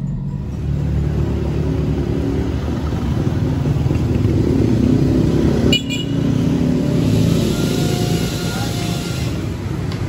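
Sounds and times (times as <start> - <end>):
motor vehicle engine rumbling: 0.0 - 10.0.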